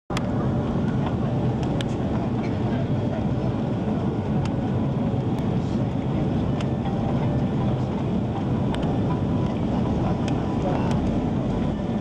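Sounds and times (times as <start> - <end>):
airplane cabin rumble: 0.1 - 12.0.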